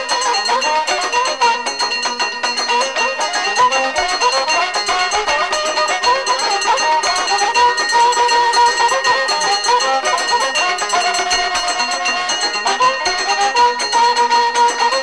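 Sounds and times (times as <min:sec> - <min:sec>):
fiddle playing gliding melody: 0:00.0 - 0:15.0
plucked strings: 0:00.0 - 0:15.0
steady percussion beat: 0:00.0 - 0:15.0.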